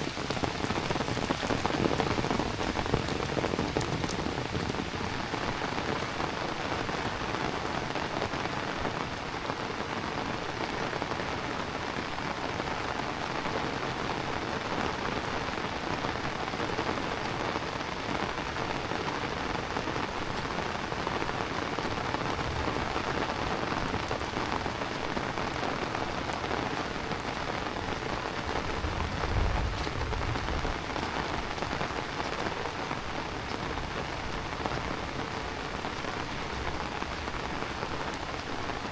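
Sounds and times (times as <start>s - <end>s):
heavy rain on surfaces: 0.0s - 38.9s.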